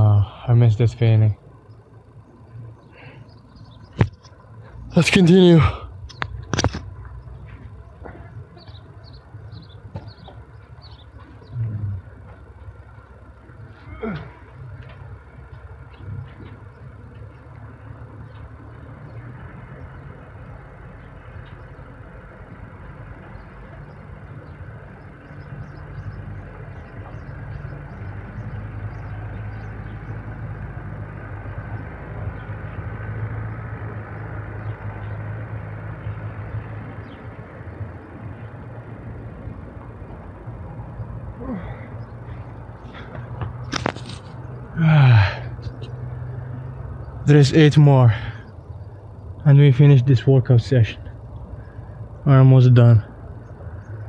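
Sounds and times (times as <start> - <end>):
low engine hum: 0.0 - 54.0
vehicles passing: 0.0 - 54.0.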